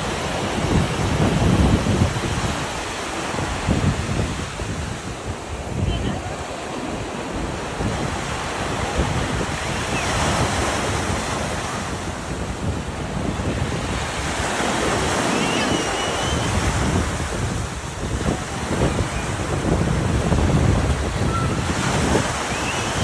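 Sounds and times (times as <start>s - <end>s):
surf washing around legs: 0.0s - 23.0s
wind noise on microphone: 0.0s - 23.0s.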